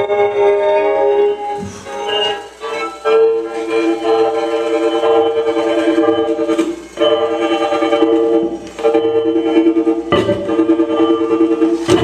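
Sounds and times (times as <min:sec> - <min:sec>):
experimental band droning: 0:00.0 - 0:12.0.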